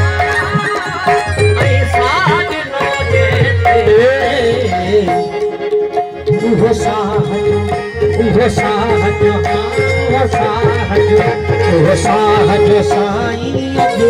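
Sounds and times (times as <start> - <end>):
harmonium playing: 0.0 - 14.0
man singing: 0.0 - 14.0.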